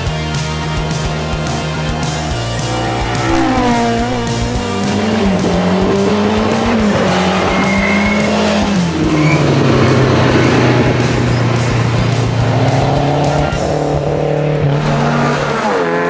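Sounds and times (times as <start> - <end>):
background music: 0.0 - 16.0
rally car engine at full throttle: 0.0 - 16.0.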